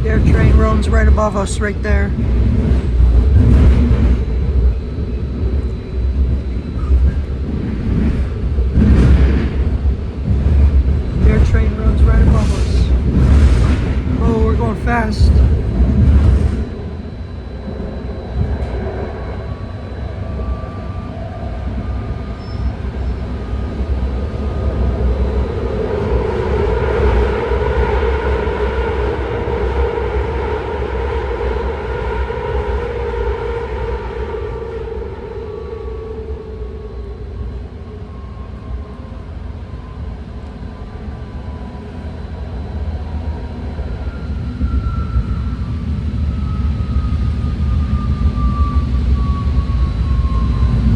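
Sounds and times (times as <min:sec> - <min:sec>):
train wheels rumbling on rails: 0:00.0 - 0:50.9
train whine: 0:00.0 - 0:50.9.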